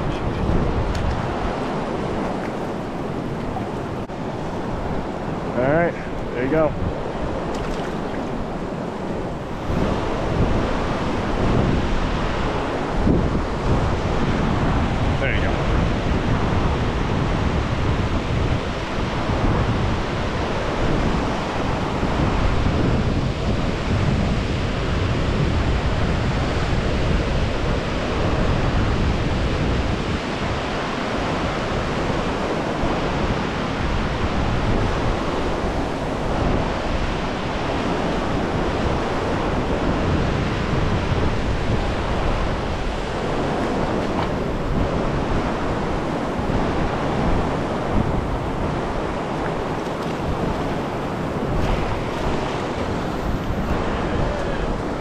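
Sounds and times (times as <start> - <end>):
river rushing through rapids: 0.0 - 55.0.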